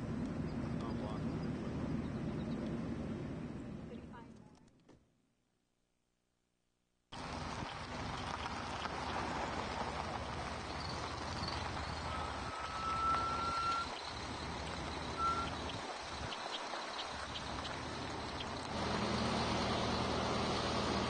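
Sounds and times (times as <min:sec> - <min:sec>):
truck engine running: 0:00.0 - 0:04.3, 0:07.2 - 0:21.0.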